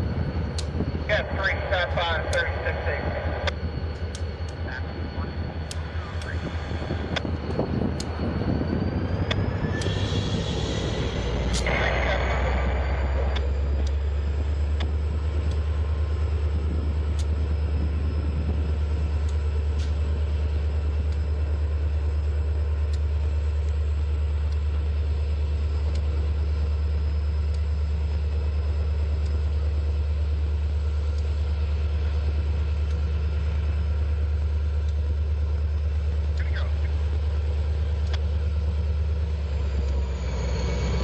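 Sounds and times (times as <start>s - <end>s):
diesel locomotive engine drone: 0.0s - 41.0s.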